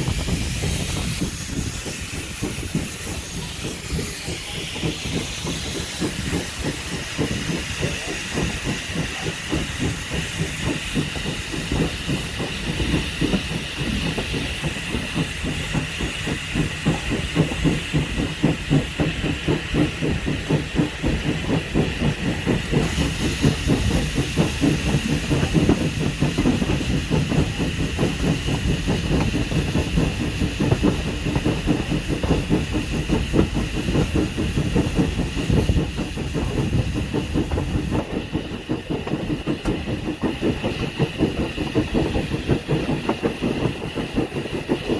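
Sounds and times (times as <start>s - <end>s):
train rumble: 0.0s - 44.9s
wheels rattling on track: 0.0s - 44.9s.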